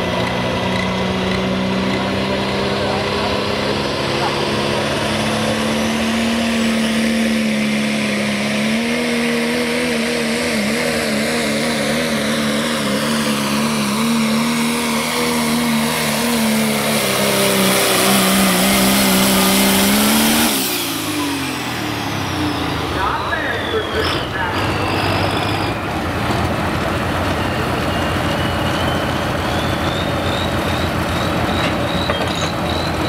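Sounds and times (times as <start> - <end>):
diesel pickup engine at full throttle: 0.0 - 33.0
dropping engine whine: 0.0 - 33.0.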